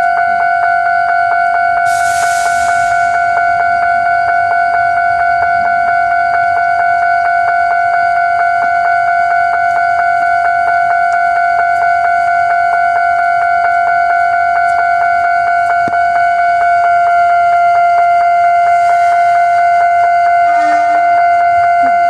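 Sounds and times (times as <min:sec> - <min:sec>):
level-crossing warning bell ringing: 0:00.0 - 0:22.0.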